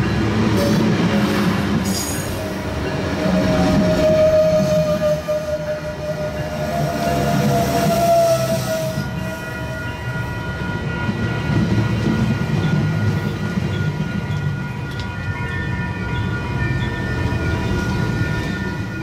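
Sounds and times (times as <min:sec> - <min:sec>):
passenger train rolling past: 0:00.0 - 0:19.0.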